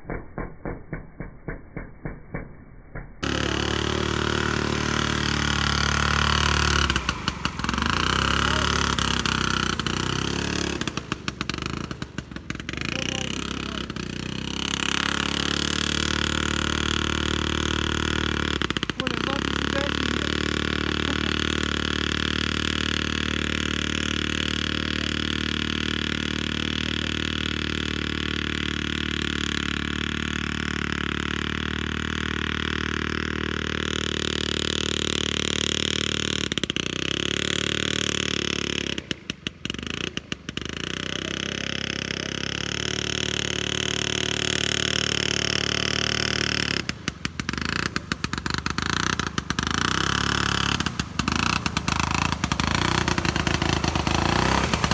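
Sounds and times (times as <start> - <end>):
two-stroke engine running: 3.2 - 54.9.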